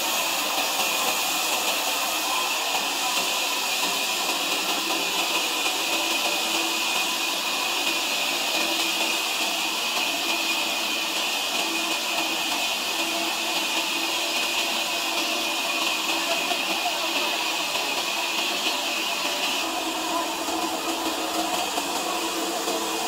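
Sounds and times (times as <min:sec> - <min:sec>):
sawmill saw hissing: 0:00.0 - 0:23.0.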